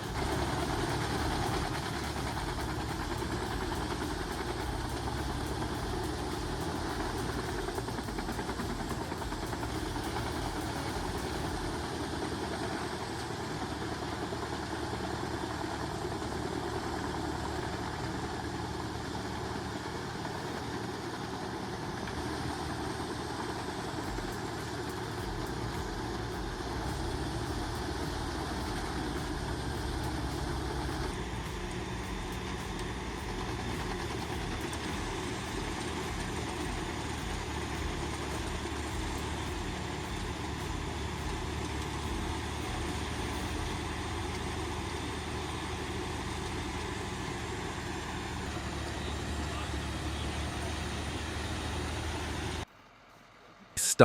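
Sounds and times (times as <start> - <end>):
large engine running: 0.0 - 52.7.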